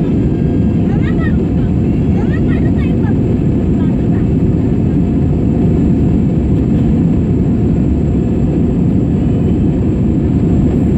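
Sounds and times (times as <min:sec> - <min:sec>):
jet engines roaring: 0:00.0 - 0:10.9.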